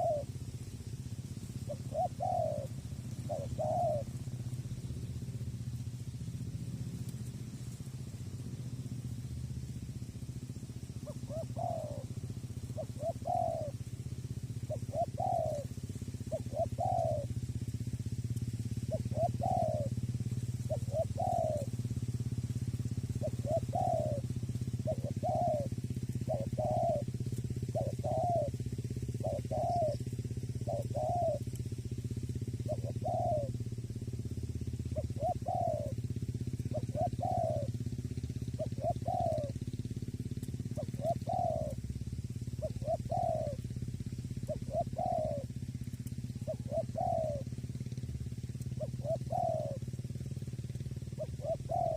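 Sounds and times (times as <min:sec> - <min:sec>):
dove cooing: 0:00.0 - 0:51.9
steady low rumble: 0:00.0 - 0:51.9.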